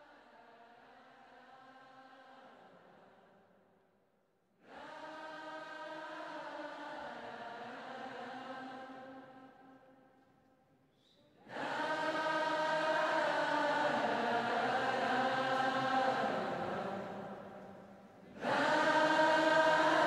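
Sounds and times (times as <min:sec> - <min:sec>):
choir-like chanting music: 0:00.0 - 0:03.9, 0:04.6 - 0:10.2, 0:11.3 - 0:20.0.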